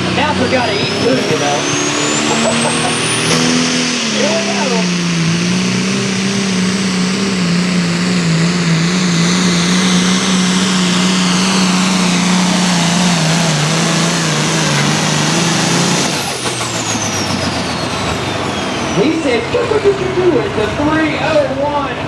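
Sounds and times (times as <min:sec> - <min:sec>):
diesel engine at full throttle: 0:00.0 - 0:22.0
turbo whine: 0:00.0 - 0:22.0.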